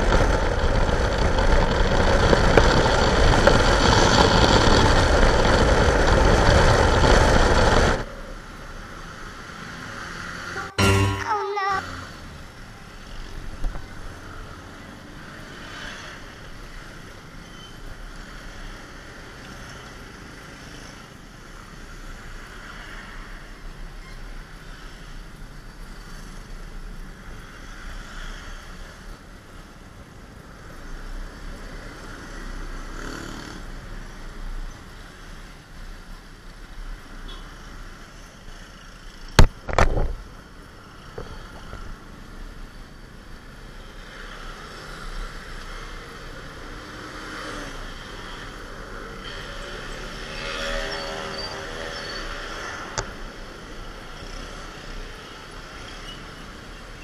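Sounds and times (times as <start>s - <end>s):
wind and road noise: 0.0s - 10.7s, 11.6s - 57.0s.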